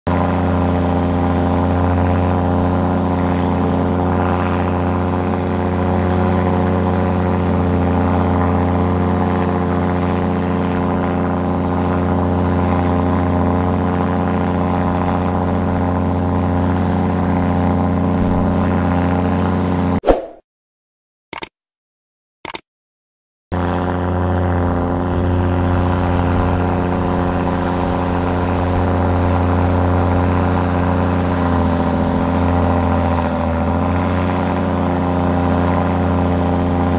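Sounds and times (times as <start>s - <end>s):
diesel engine running steadily: 0.1s - 20.0s, 23.5s - 36.9s.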